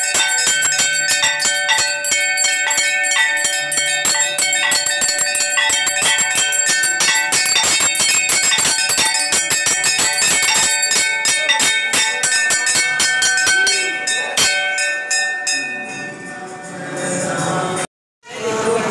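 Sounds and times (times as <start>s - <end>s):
temple bells ringing: 0.0s - 17.0s.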